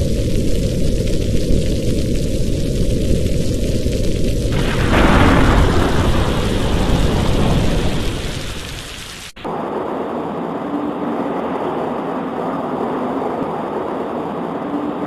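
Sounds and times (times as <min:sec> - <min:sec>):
rain: 0:00.0 - 0:15.0
thunder rumble: 0:00.0 - 0:15.0.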